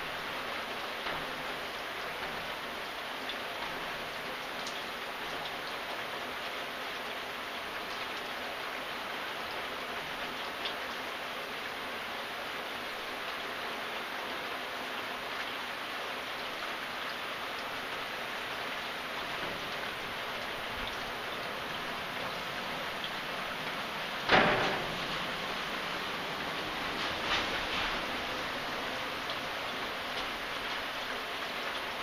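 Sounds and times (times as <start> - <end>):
raindrops ticking on a surface: 0.0 - 32.0
steady rain hiss: 0.0 - 32.0.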